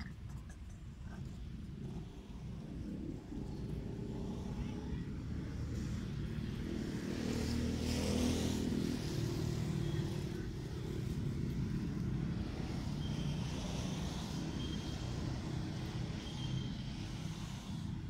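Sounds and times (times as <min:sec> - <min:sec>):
motorbike engines passing: 0:00.1 - 0:18.0.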